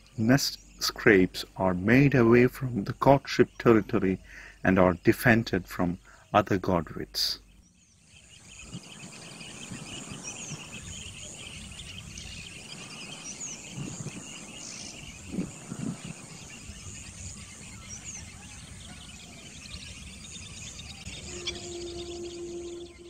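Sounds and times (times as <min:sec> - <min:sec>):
faint high bird chirps: 0:00.0 - 0:23.0
insects chirring: 0:00.0 - 0:23.0.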